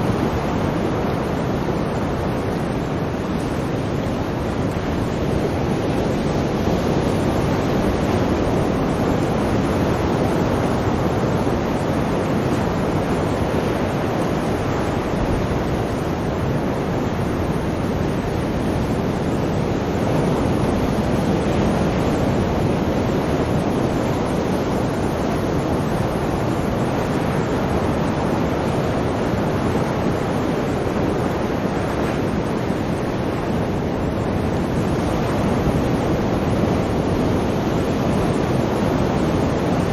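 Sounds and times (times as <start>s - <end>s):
sea surf washing: 0.0s - 39.9s.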